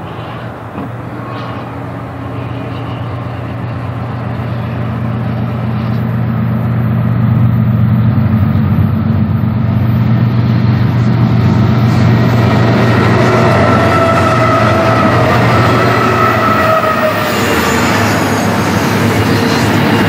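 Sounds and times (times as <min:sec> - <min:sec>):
diesel locomotives droning: 0:00.0 - 0:20.0.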